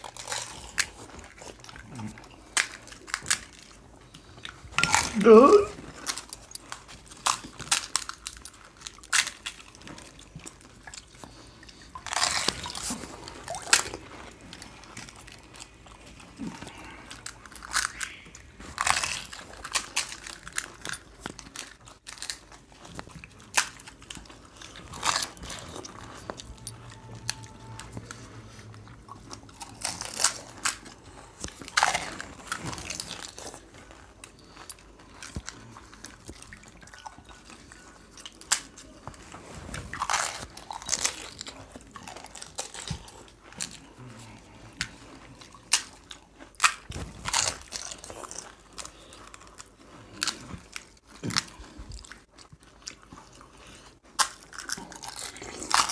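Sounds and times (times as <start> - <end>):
people chewing crisp shells: 0.0 - 55.9.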